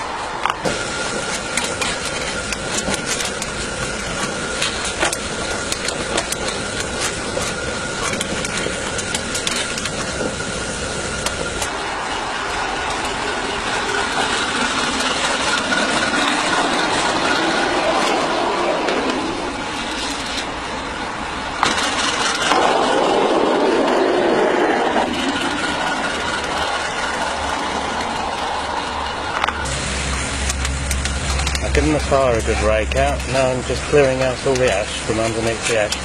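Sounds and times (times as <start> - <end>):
steam hissing: 0.0 - 36.0
locomotive motion clanks: 0.5 - 36.0.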